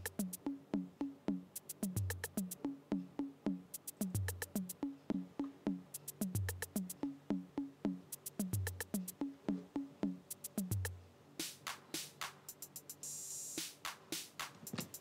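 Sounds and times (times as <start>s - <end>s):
drum machine beat: 0.0s - 15.0s
high hi-hat ticks: 0.0s - 15.0s.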